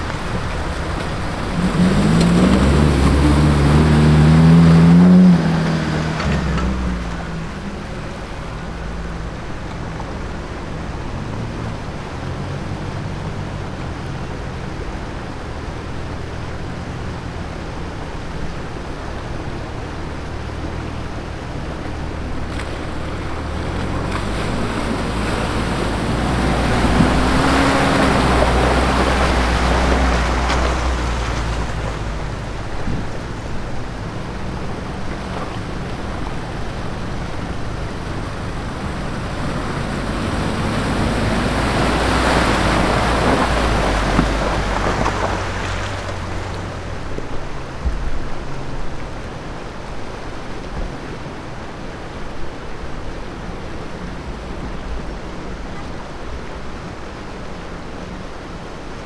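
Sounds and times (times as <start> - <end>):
engines running under load: 0.0 - 59.0
river rushing: 0.0 - 59.0
water churning around wheels: 0.0 - 59.0.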